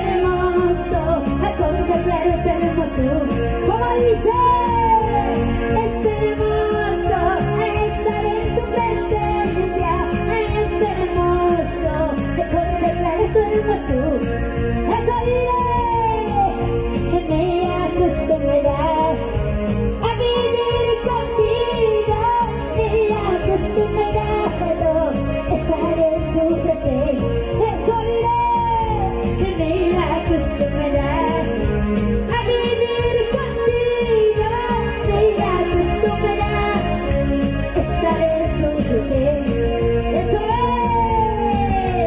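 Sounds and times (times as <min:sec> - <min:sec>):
backing music with steady beat: 0:00.0 - 0:42.0
woman singing into microphone: 0:00.0 - 0:42.0.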